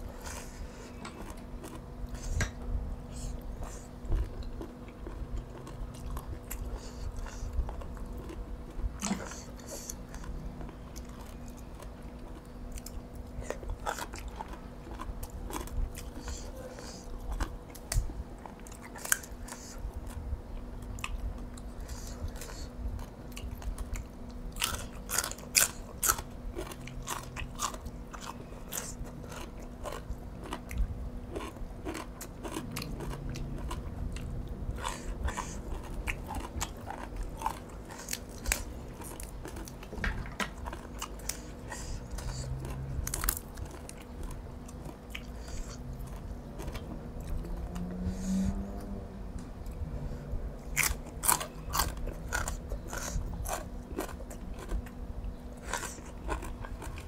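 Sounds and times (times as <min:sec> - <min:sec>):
faint steady hum: 0:00.0 - 0:57.0
person chewing and crunching food: 0:00.0 - 0:57.0.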